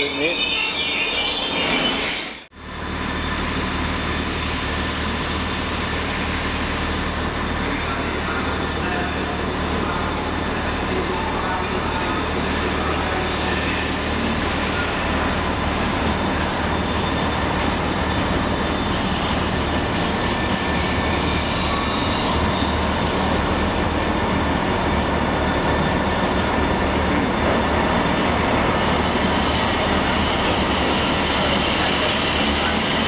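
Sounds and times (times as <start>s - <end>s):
train wheels rumbling on rails: 1.9s - 33.0s.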